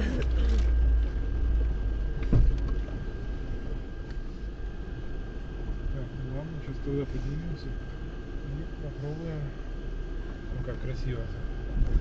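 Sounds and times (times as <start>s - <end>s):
car engine rumbling in cabin: 0.0s - 12.0s.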